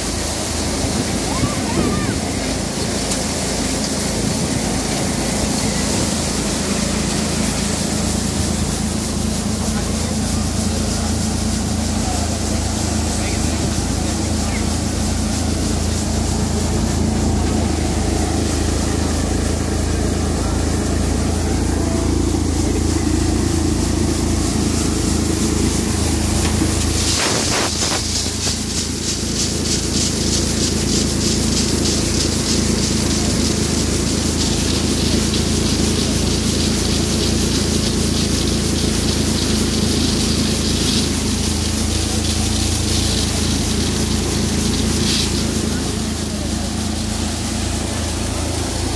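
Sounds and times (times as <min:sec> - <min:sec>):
thresher mechanical drone: 0:00.0 - 0:48.9.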